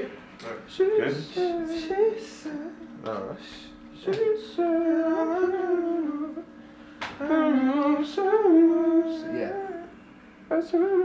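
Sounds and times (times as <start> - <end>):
person humming wordless melody: 0.8 - 6.5, 7.2 - 11.0.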